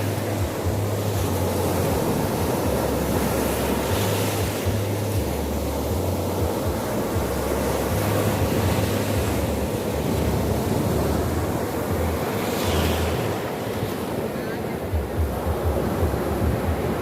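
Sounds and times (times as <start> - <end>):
sea surf rushing: 0.0 - 17.0
wind buffeting microphone: 0.0 - 17.0.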